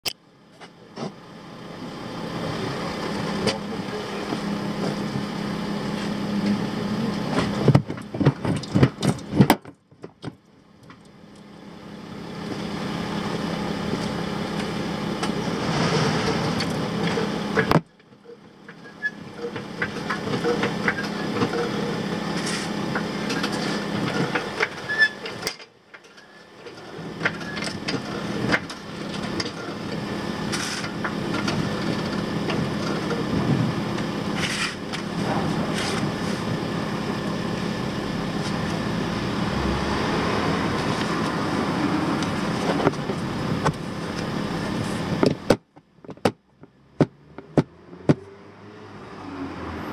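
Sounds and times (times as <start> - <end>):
car road noise: 0.3 - 49.9.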